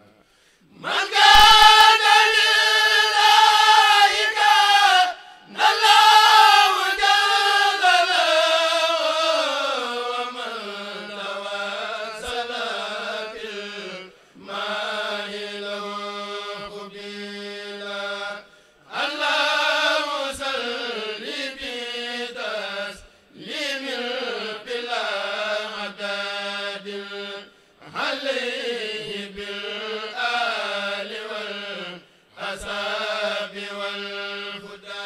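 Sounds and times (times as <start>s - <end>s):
men chanting a cappella: 0.6s - 35.0s.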